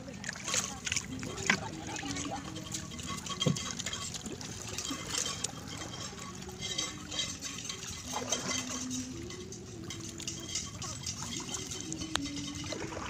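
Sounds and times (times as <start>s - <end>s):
water dripping and splashing: 0.0s - 13.0s.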